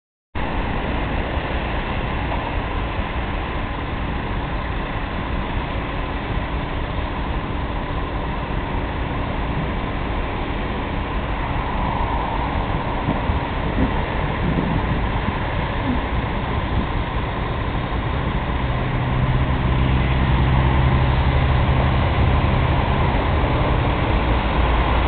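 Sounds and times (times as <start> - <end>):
truck engine droning: 0.4 - 25.0.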